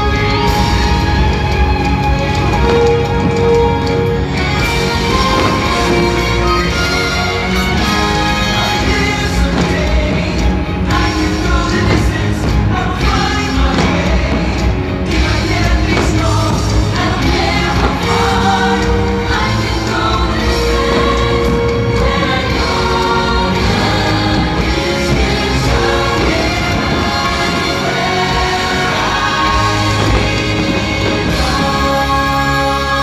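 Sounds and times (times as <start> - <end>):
loud music with choral singing: 0.0 - 33.0.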